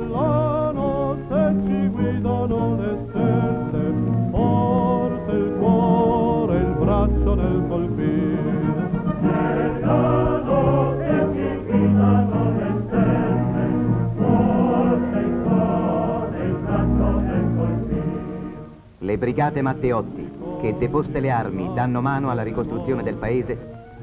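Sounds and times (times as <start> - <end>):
instrumental accompaniment: 0.0 - 21.3
choir singing: 0.0 - 24.0.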